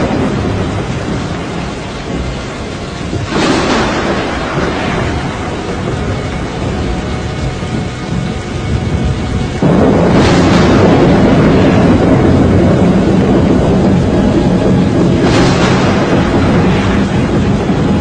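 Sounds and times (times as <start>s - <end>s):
music: 0.0s - 18.0s
storm wind rushing: 0.0s - 18.0s.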